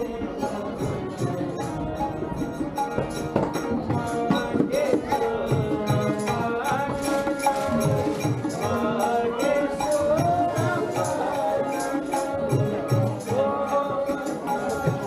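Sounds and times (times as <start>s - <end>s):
percussive beat: 0.1s - 15.0s.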